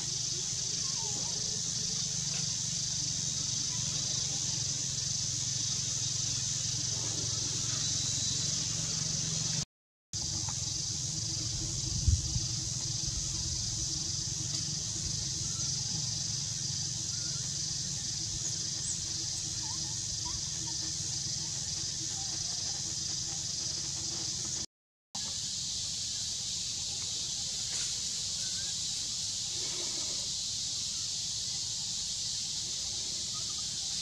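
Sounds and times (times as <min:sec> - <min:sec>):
insect drone: 0:00.0 - 0:09.6, 0:10.2 - 0:34.0.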